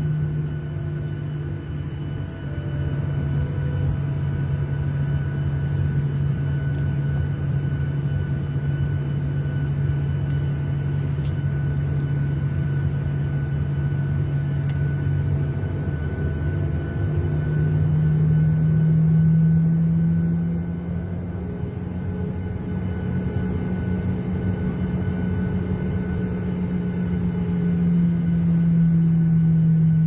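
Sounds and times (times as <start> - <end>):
jet engine hum: 0.0 - 30.0.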